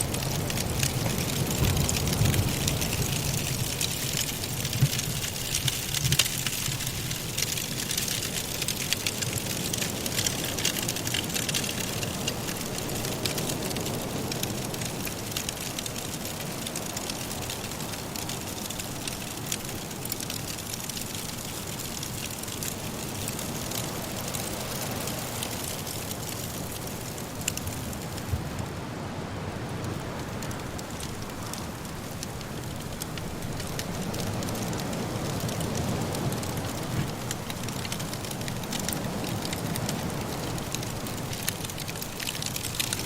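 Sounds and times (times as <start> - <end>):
low rush of wind: 0.0 - 43.0
wood fire crackling: 0.0 - 43.0.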